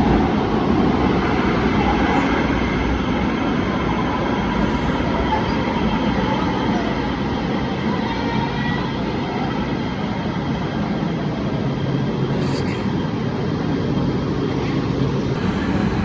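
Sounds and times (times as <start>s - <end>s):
light rail train rumbling: 0.0s - 16.0s.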